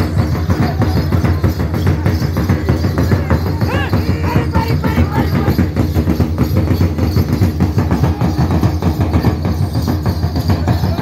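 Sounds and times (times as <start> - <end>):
crowd voices: 0.0 - 11.0
loud fast drumming: 0.0 - 11.0.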